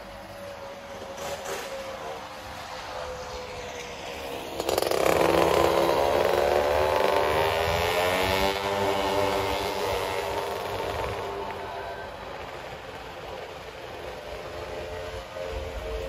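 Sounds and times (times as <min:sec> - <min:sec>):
car passing: 0:00.0 - 0:16.0
motor scooters passing: 0:00.0 - 0:16.0.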